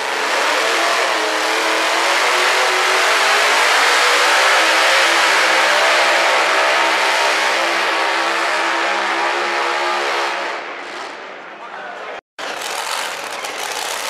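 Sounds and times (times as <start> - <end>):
tractor engine at high revs: 0.0 - 10.6, 12.4 - 14.0.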